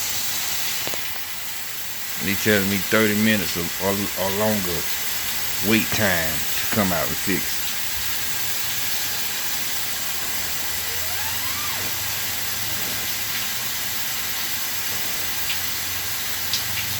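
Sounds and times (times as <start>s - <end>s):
water hissing from burst hose: 0.0s - 16.9s.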